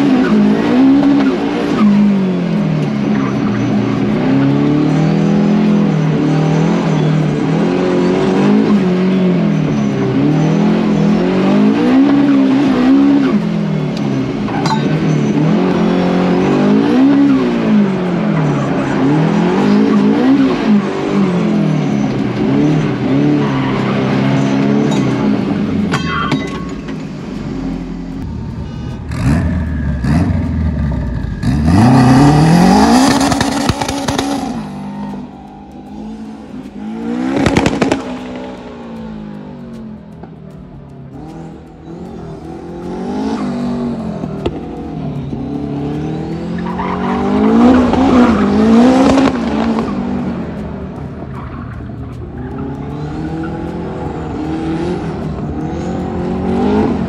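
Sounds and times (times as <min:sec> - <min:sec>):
car engine revving: 0:00.0 - 0:57.0
tyre and exhaust noise: 0:00.0 - 0:57.0.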